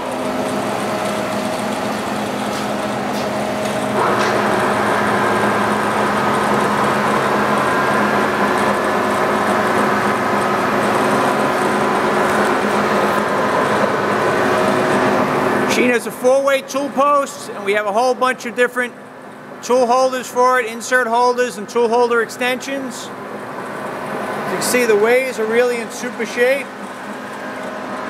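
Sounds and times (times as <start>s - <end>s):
lathe running with gear whine: 0.0s - 28.0s.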